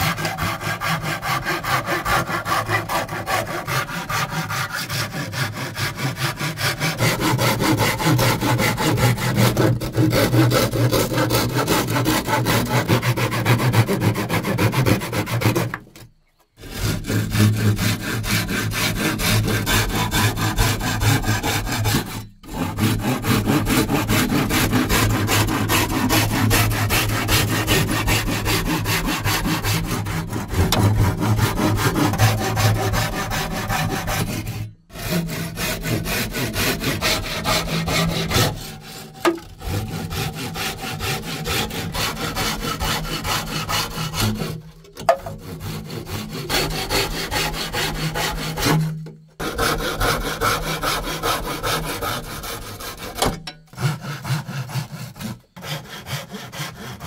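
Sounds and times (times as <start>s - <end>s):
hand saw cutting bamboo: 0.0s - 57.0s.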